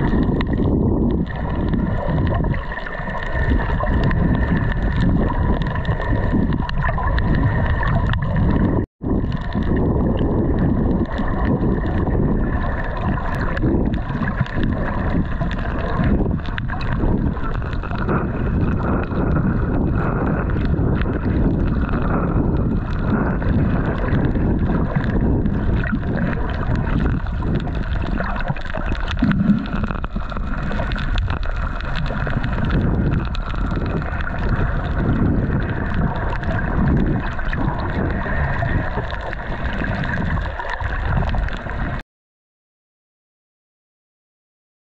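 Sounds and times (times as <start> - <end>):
water rushing along hull: 0.0 - 42.0
wind buffeting microphone: 0.0 - 42.0.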